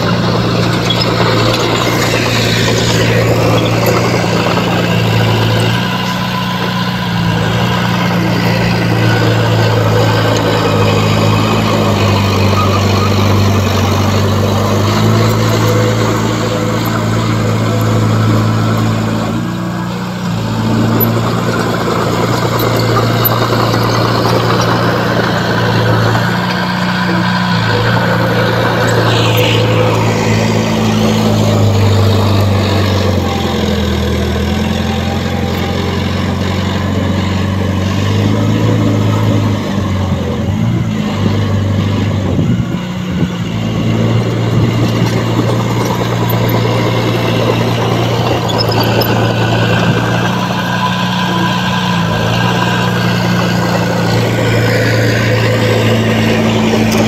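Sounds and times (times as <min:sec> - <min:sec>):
bulldozer diesel engine under load: 0:00.0 - 0:57.0
high whine: 0:00.0 - 0:57.0.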